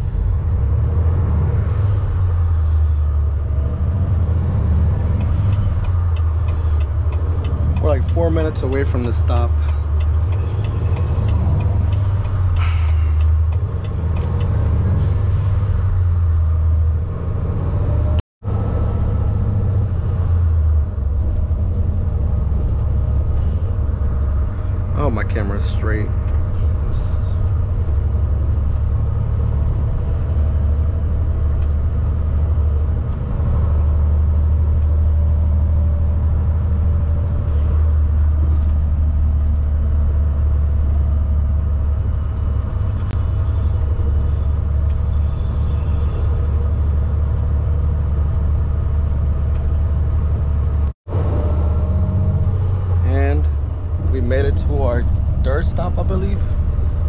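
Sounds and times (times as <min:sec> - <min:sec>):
diesel truck engine drone: 0:00.0 - 0:57.0.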